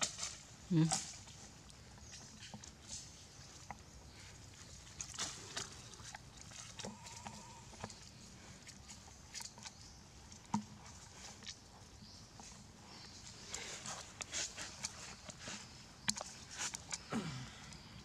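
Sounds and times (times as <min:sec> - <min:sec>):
rustles and taps on dry leaves: 0:00.0 - 0:03.9, 0:04.6 - 0:11.6, 0:12.3 - 0:17.0.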